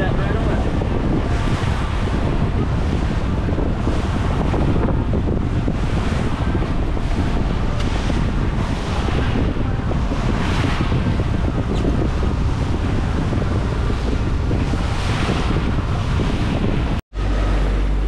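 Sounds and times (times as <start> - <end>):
low rumble: 0.0 - 18.0
sea water rushing around boat: 0.0 - 18.0
wind buffeting microphone: 0.0 - 18.0.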